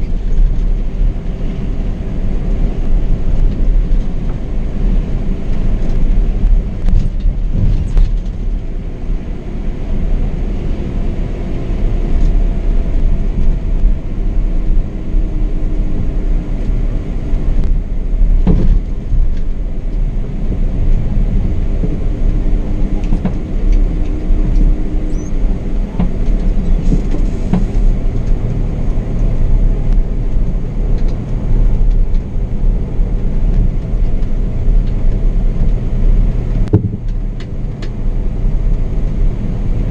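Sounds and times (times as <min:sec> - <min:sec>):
coach engine running: 0:00.0 - 0:39.9
tyre and road noise: 0:00.0 - 0:39.9.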